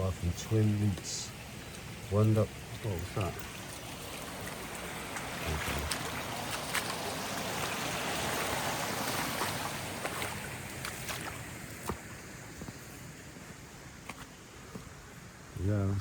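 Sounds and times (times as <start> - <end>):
stream water rushing: 0.0 - 15.6.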